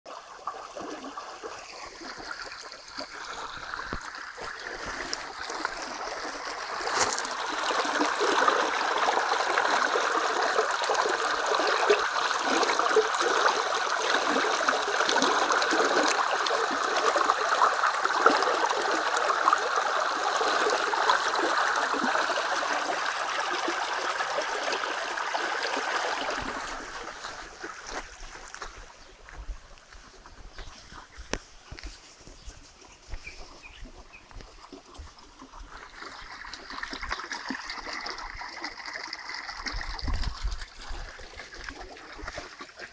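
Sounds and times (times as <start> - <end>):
water rushing along a channel: 0.1 - 42.9.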